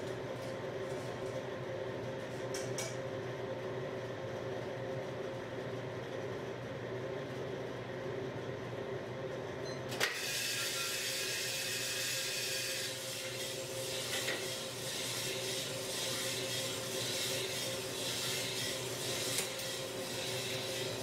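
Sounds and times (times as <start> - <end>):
coffee roaster humming: 0.0 - 21.0.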